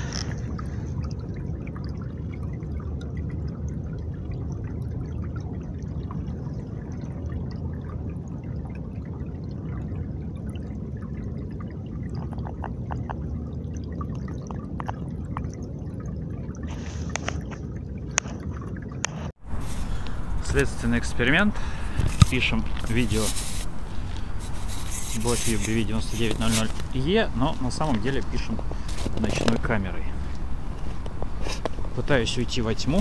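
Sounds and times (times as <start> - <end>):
stream trickling over stones: 0.0 - 33.0.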